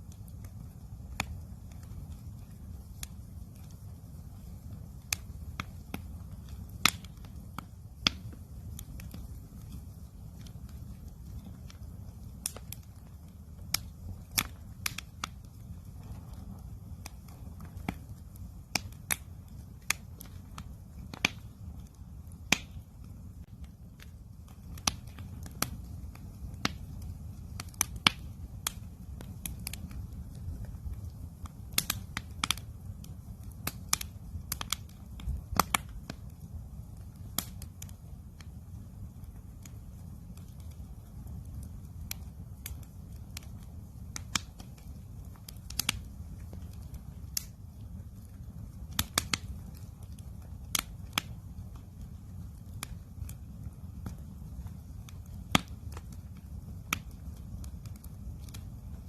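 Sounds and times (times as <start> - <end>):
campfire crackling and popping: 0.0 - 59.0
steady low rumble: 0.0 - 59.0.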